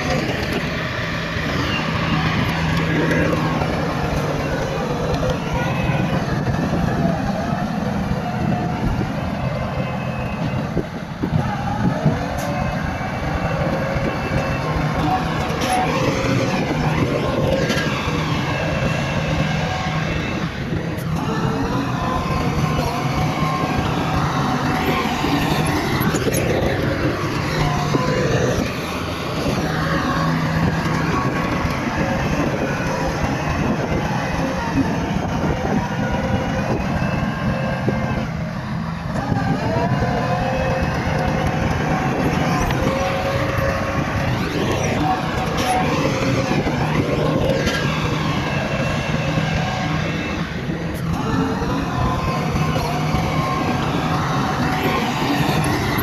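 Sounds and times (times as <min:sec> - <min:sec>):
bulldozer diesel engine revving: 0:00.0 - 0:56.0.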